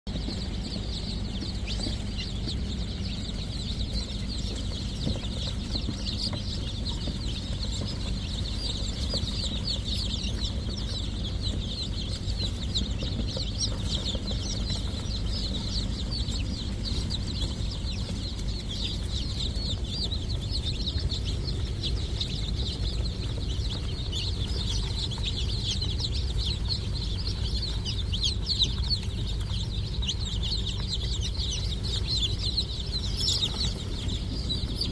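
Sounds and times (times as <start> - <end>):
chickens peeping and clucking: 0.1 - 34.9
steady low hum: 0.1 - 34.9.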